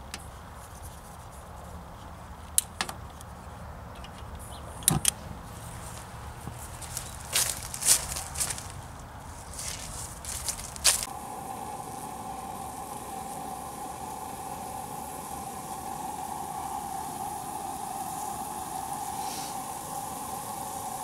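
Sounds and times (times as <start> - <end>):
camp stove burning with hiss: 0.0 - 3.5, 4.4 - 21.0.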